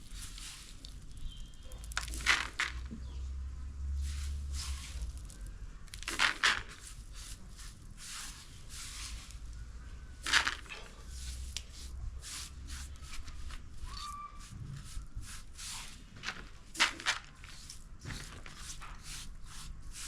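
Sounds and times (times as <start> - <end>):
dry grains rustling and rattling: 0.0 - 2.9, 3.9 - 20.0.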